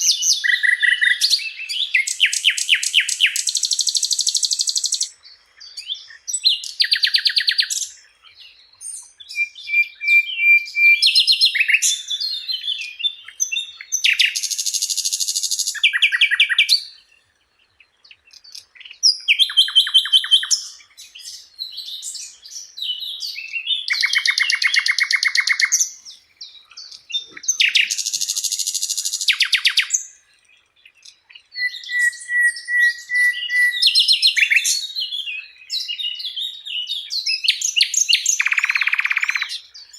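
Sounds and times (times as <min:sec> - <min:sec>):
flycatcher singing trills and whistles: 0:00.0 - 0:39.9.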